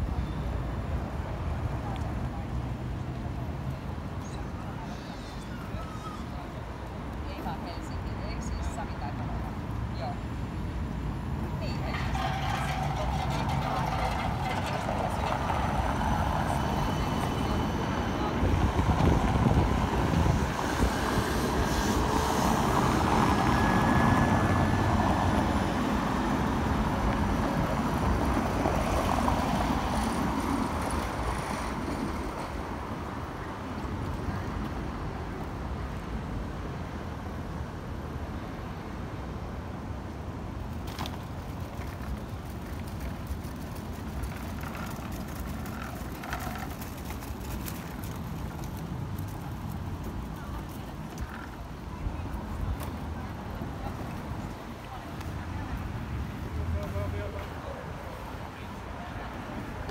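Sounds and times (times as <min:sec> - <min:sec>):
vehicles passing on cobbles: 0:00.0 - 0:59.9.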